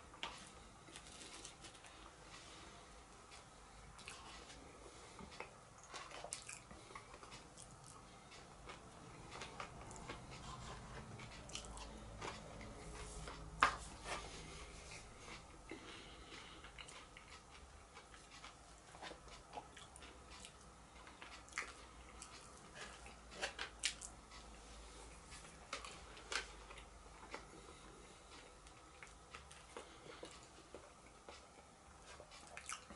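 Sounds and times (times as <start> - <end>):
person chewing food: 0.1 - 32.9.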